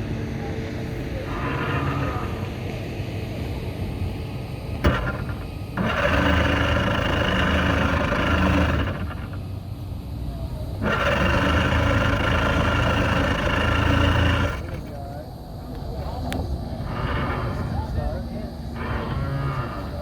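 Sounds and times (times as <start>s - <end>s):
boat engine cranking on starter: 0.0s - 9.8s, 10.6s - 15.2s, 16.8s - 20.0s.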